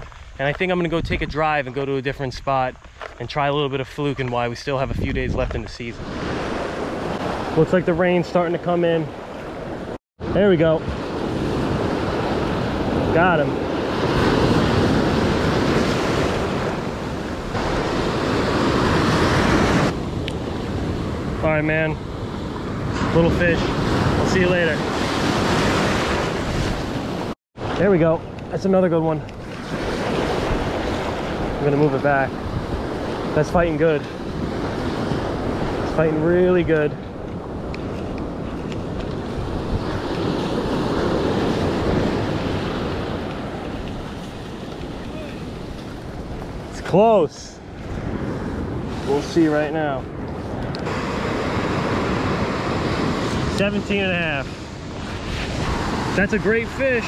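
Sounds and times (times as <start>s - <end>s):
wind buffeting microphone: 0.0s - 3.2s, 3.8s - 7.8s, 9.0s - 57.0s
ocean waves crashing on beach: 5.9s - 57.0s.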